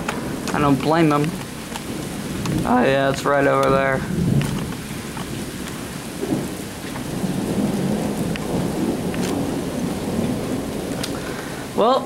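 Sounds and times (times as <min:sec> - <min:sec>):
steady rain: 0:00.0 - 0:12.0
thunder rumbling: 0:00.0 - 0:12.0.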